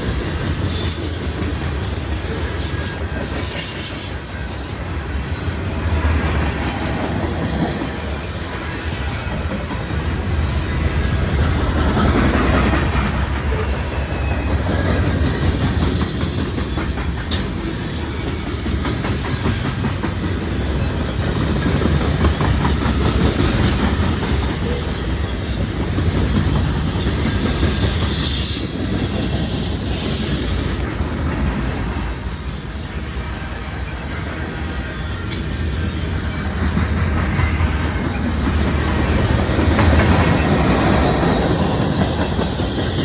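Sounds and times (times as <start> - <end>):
wheels clacking over rail joints: 0.0 - 32.2, 33.1 - 43.0
freight train rumbling past: 0.0 - 43.0.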